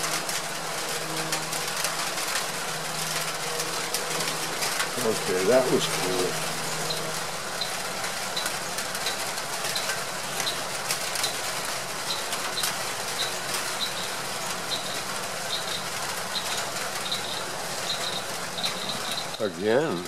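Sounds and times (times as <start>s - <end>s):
faint crackles: 0.0s - 20.0s
steady outdoor noise: 0.0s - 20.0s.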